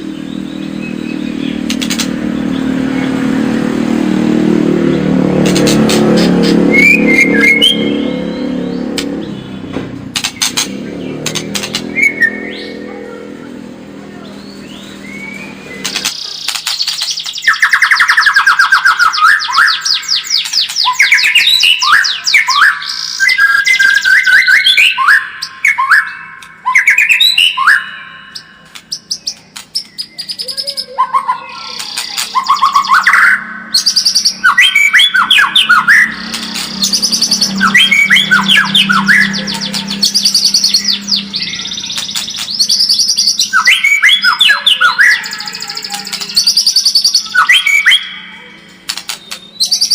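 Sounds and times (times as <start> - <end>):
bird singing trills and whistles: 0.0 - 3.3, 5.4 - 13.2, 14.2 - 49.9.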